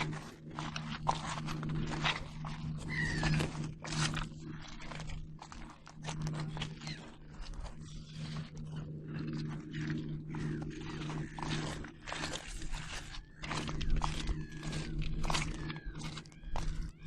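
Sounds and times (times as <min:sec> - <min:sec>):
seagulls calling: 0:00.0 - 0:17.0.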